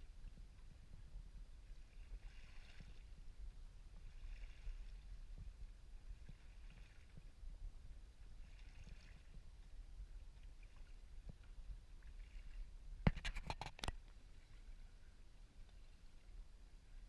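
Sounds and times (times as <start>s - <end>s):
paddle swishing in water: 0.0s - 17.0s.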